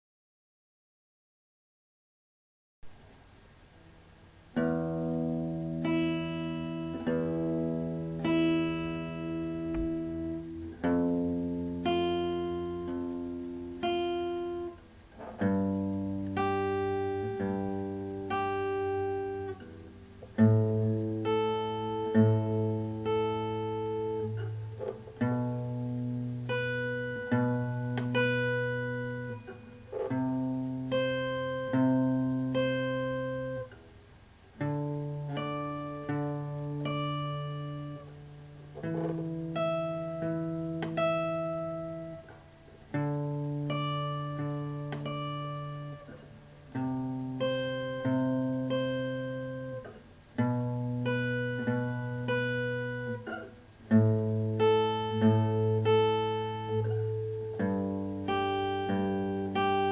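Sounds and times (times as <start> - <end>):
guitar strumming chords: 2.8 - 59.9.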